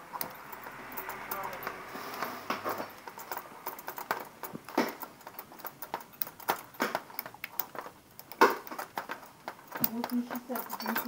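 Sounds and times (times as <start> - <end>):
scissors snipping wires: 0.0 - 11.0.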